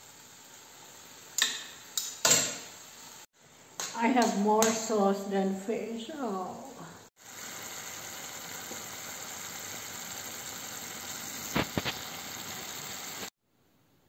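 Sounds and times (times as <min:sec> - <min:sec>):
sauce sizzling in a frying pan: 0:00.0 - 0:13.4.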